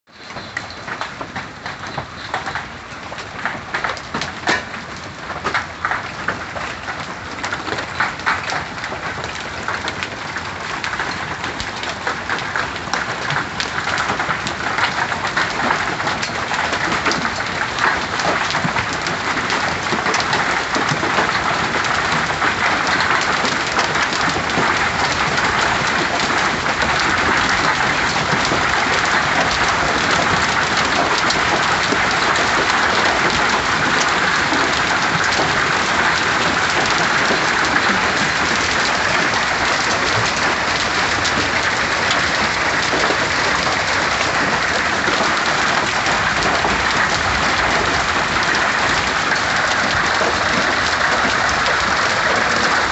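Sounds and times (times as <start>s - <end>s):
hail and rain pelting: 0.1s - 52.9s.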